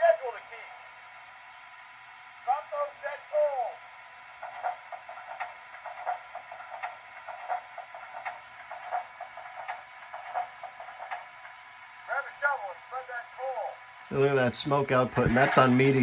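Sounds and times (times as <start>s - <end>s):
model steam locomotive chuffing: 2.4s - 16.0s.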